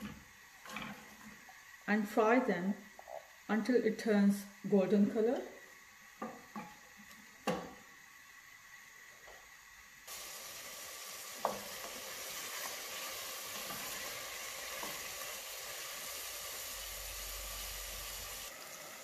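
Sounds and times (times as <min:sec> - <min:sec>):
onions sizzling in a pot: 0:00.0 - 0:19.0.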